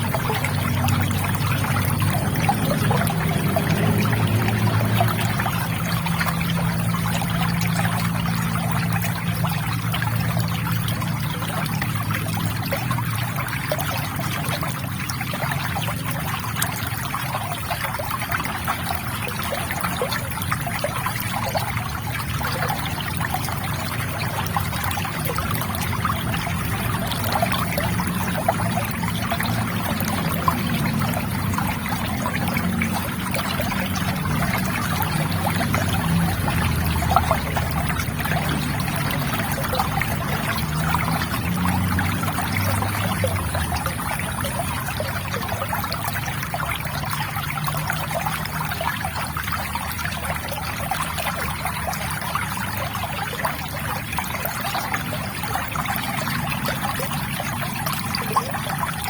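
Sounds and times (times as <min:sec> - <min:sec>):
river water trickling and gurgling: 0:00.0 - 0:59.0
small water splashes: 0:00.0 - 0:59.0.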